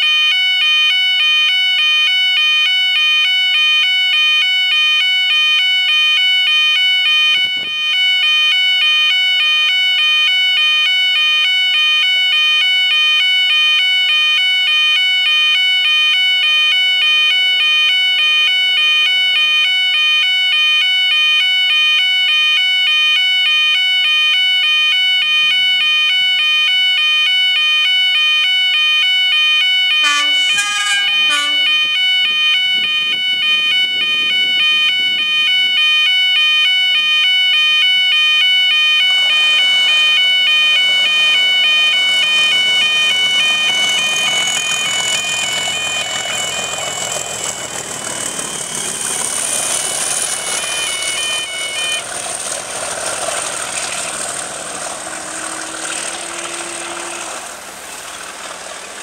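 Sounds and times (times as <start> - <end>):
two-pitch crossing alarm: 0.0 - 52.8, 53.4 - 57.8.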